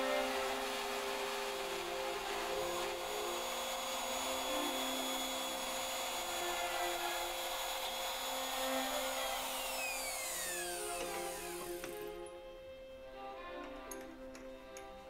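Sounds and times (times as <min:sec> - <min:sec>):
router cutting wood: 0:00.0 - 0:12.3
router motor whine: 0:00.0 - 0:12.3.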